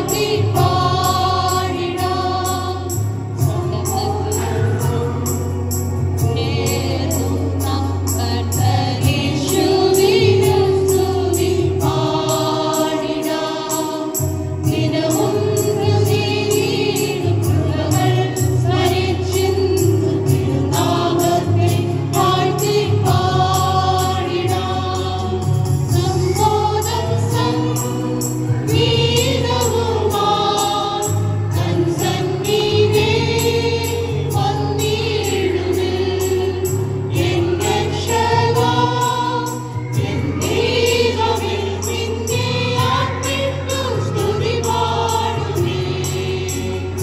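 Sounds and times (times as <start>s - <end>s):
group singing in unison: 0.0s - 47.0s.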